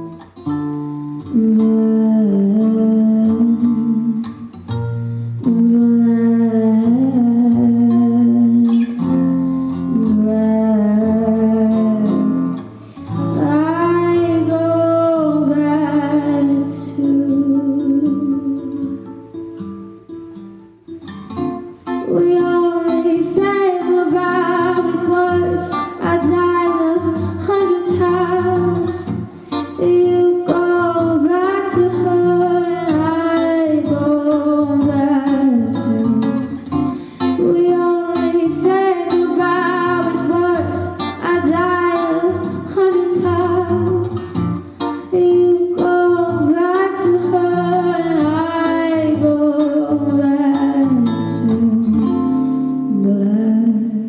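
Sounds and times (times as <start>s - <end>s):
acoustic guitar: 0.0s - 54.0s
woman singing: 1.2s - 4.6s, 5.4s - 19.2s, 21.9s - 54.0s.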